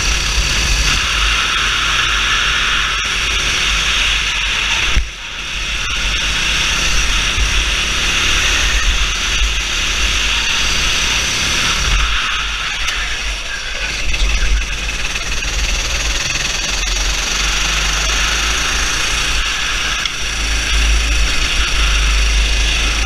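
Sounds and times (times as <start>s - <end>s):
go-kart engine racing: 0.0s - 23.0s.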